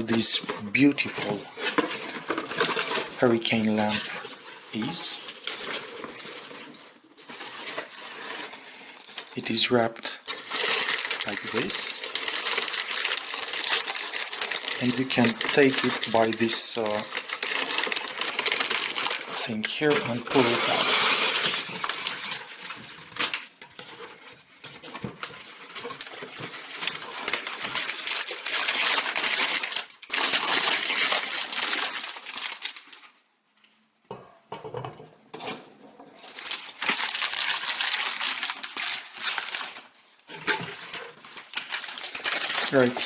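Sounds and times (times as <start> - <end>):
packaging crinkling and rustling: 0.0 - 33.2, 35.5 - 43.0.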